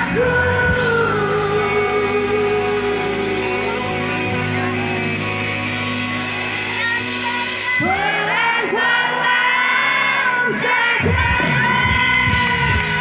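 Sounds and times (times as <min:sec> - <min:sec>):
woman singing: 0:00.0 - 0:05.0, 0:06.8 - 0:13.0
rock band playing: 0:00.0 - 0:13.0.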